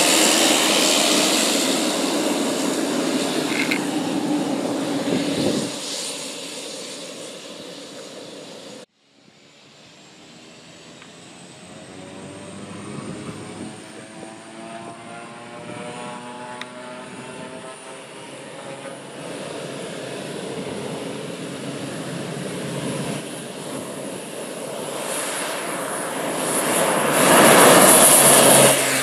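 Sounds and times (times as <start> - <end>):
propeller drone and turbine whine: 0.0 - 29.0
turboprop airplane passing: 0.0 - 29.0.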